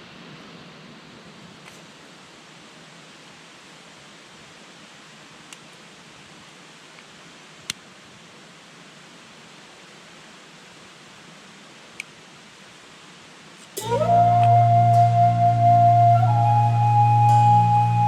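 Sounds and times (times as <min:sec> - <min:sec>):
campfire hissing: 0:00.0 - 0:18.0.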